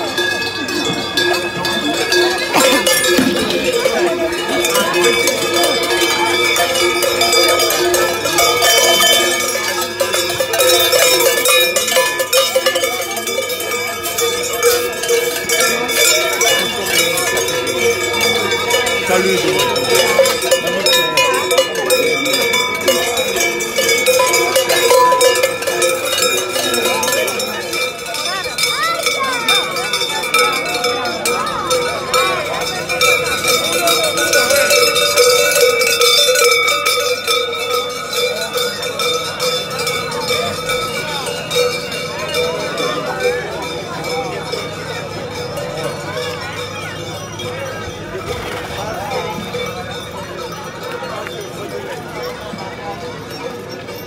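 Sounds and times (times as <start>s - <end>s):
cowbells clanging: 0.0s - 54.0s.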